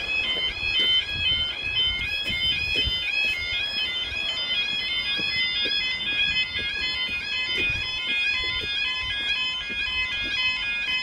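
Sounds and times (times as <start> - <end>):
level crossing alarm two-tone warble: 0.0 - 11.0.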